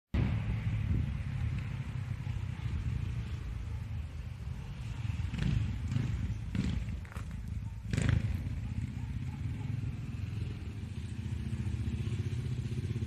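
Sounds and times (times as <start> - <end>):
motorcycle engine rumbling: 0.2 - 13.0.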